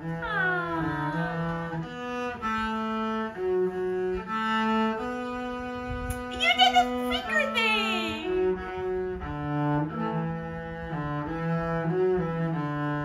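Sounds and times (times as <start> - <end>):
solo cello bowed: 0.0 - 6.3, 8.2 - 13.0.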